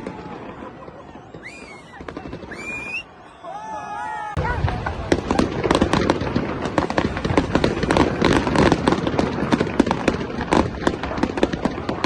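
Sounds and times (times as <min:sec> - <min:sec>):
fireworks bangs and crackles: 0:00.0 - 0:03.2, 0:04.3 - 0:12.0.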